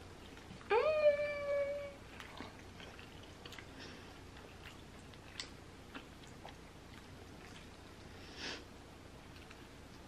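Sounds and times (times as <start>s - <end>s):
faint chewing: 0.0s - 0.7s, 2.0s - 10.0s.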